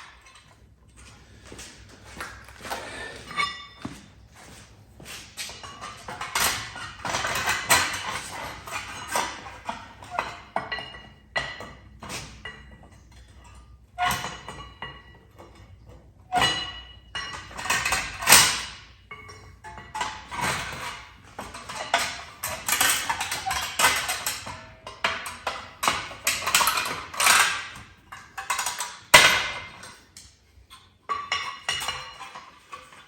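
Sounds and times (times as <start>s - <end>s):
metal tools clinking and clanking: 0.0s - 4.0s, 5.4s - 33.0s.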